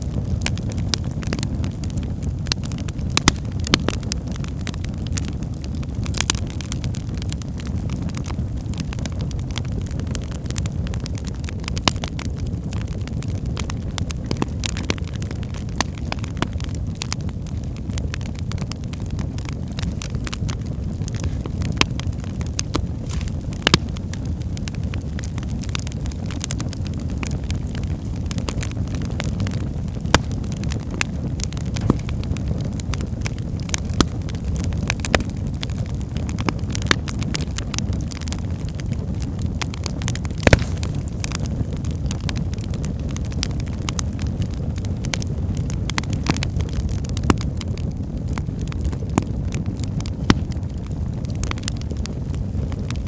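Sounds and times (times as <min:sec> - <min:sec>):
fire flames rumbling: 0:00.0 - 0:53.0
logs crackling and popping: 0:00.0 - 0:53.0.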